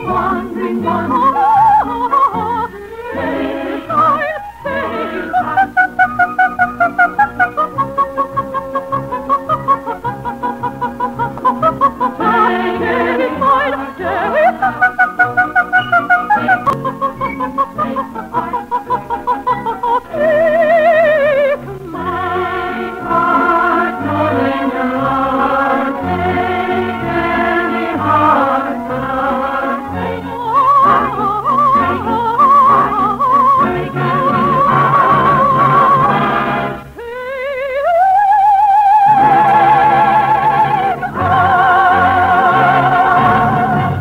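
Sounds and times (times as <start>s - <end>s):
chorus and orchestra chords: 0.0s - 37.0s
orchestral notes: 0.0s - 37.0s, 39.0s - 44.0s
soprano singing with vibrato: 0.0s - 44.0s.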